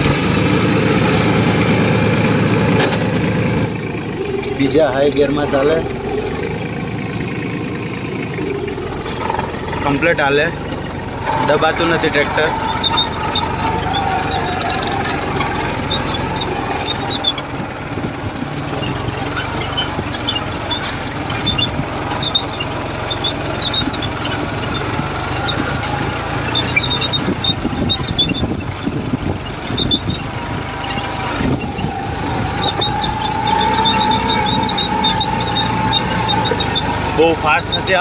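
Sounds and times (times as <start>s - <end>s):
tractor diesel engine drone: 0.0s - 38.0s.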